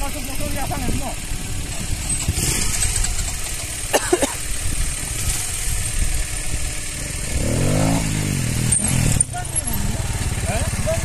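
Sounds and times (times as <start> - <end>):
motorcycle engines running: 0.0 - 11.0
motorcycle revving: 0.0 - 11.0.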